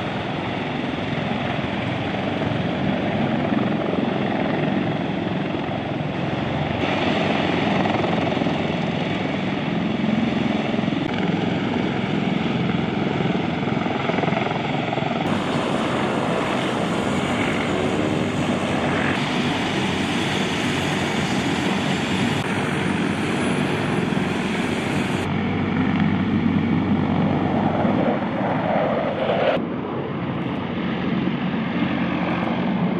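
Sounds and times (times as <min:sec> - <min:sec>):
helicopter rotor and turbine noise: 0:00.0 - 0:32.9.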